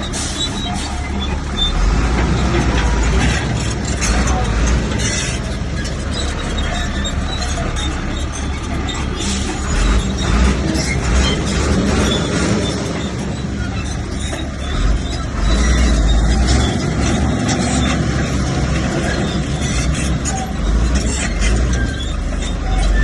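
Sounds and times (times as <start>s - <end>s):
bulldozer diesel engine under load: 0.0s - 23.0s
clattering machinery: 0.0s - 23.0s.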